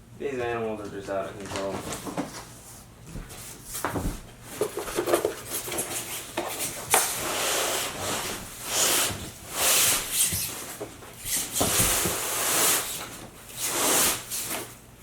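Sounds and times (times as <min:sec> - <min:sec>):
cardboard scraping and rubbing: 0:01.6 - 0:14.8.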